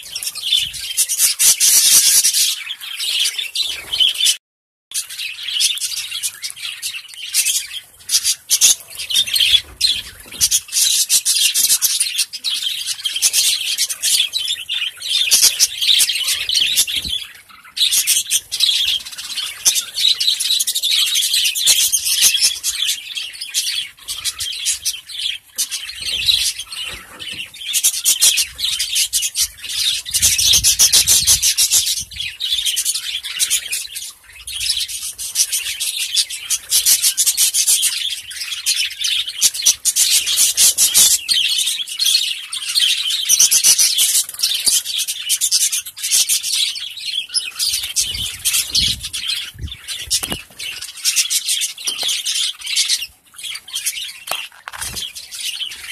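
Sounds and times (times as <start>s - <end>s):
budgerigars chattering and chirping: 0.0s - 4.4s, 5.0s - 55.9s.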